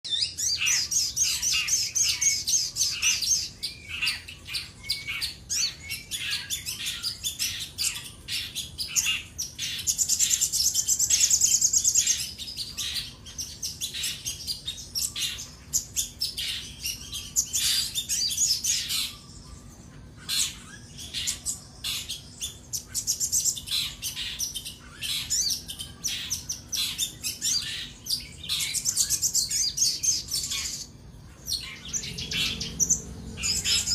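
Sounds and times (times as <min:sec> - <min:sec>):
sunbird singing chirps and trills: 0:00.0 - 0:33.9.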